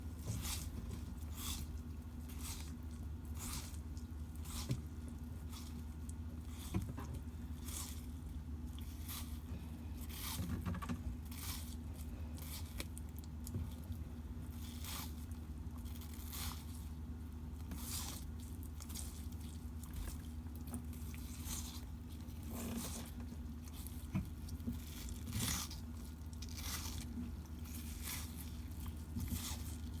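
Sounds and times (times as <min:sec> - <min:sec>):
steady low hum: 0:00.0 - 0:30.0
tortoise chewing crunches: 0:00.0 - 0:30.0.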